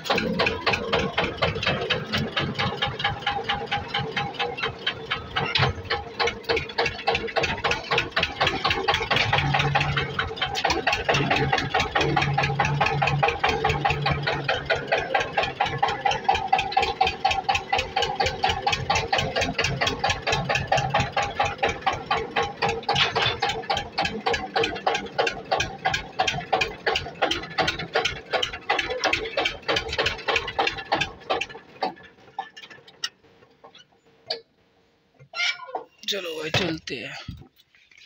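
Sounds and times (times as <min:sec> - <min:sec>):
tractor engine running: 0:00.0 - 0:35.3.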